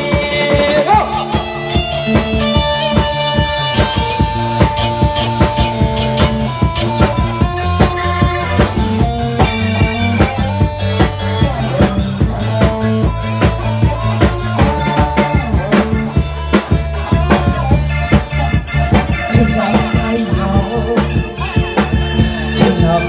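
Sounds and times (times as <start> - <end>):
drum kit beat: 0.0 - 23.0
electric guitar: 0.0 - 23.0
electronic keyboard chords: 0.0 - 23.0.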